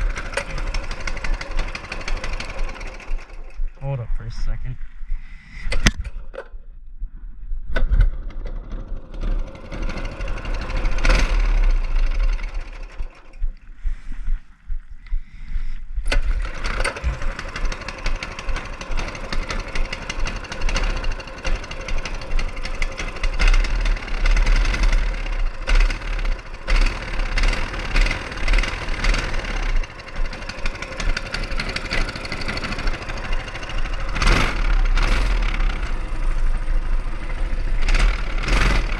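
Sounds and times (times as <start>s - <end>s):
small bike engine running: 0.0s - 3.7s, 8.0s - 13.5s, 16.0s - 38.9s.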